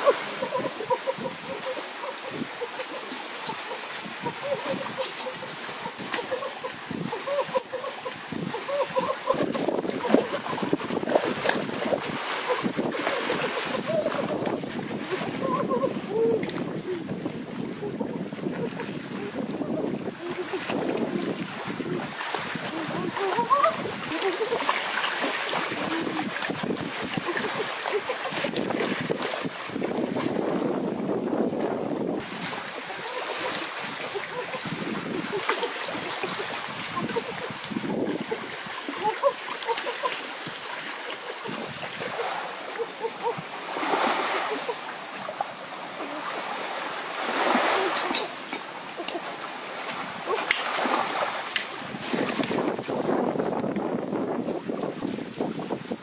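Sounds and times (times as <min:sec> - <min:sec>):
shallow water splashing: 0:00.0 - 0:30.7, 0:32.2 - 0:53.2
wind noise on microphone: 0:00.0 - 0:40.7, 0:41.3 - 0:46.2, 0:49.8 - 0:56.0.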